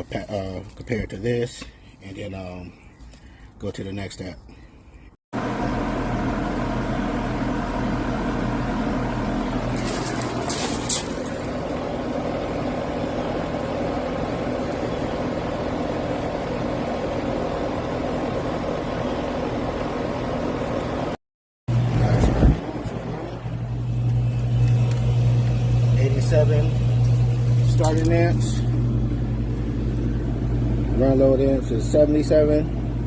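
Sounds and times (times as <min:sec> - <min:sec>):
air conditioner humming: 0:05.4 - 0:33.0.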